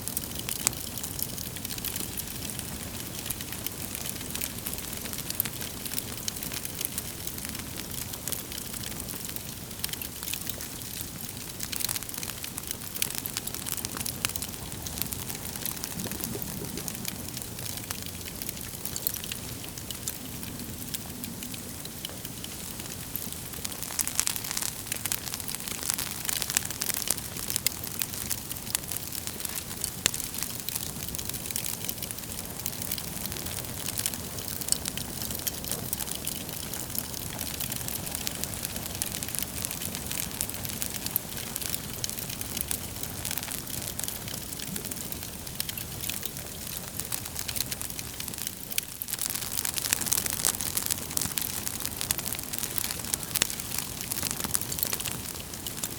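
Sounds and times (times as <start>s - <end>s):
fire crackling in a fireplace: 0.0s - 55.9s.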